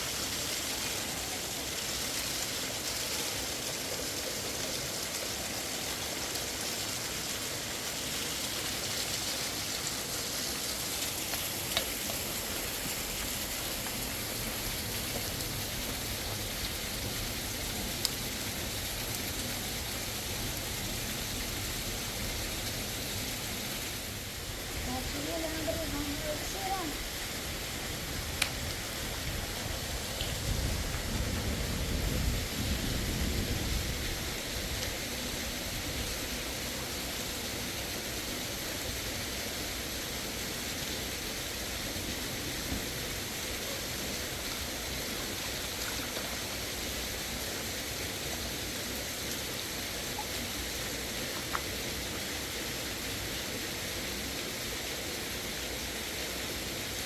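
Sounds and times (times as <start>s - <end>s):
running water hissing: 0.0s - 57.0s.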